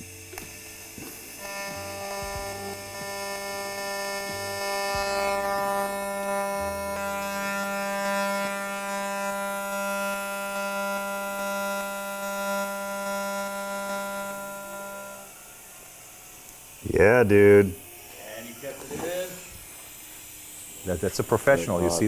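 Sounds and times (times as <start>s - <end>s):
welding arc buzzing hum: 0.0s - 22.0s.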